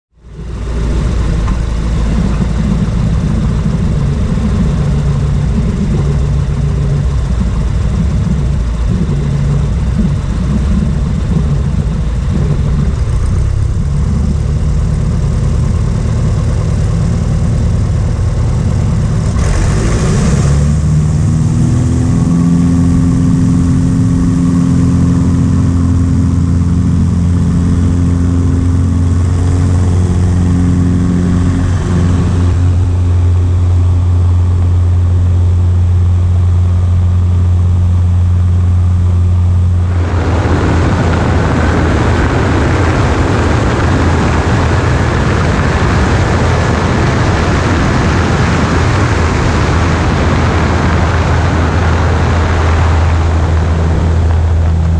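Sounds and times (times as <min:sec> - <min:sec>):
light aircraft engine and propeller: 0:00.1 - 0:54.9.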